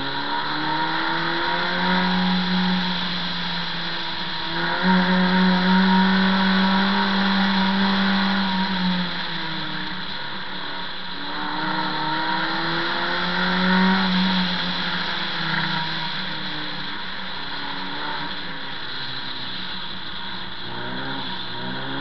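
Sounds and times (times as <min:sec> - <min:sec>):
car engine: 0:00.0 - 0:22.0
road and wind noise: 0:00.0 - 0:22.0.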